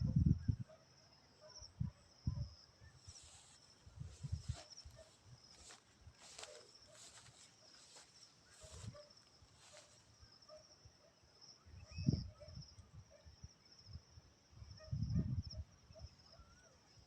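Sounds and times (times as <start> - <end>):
high-pitched insect trill: 1.6 - 17.0.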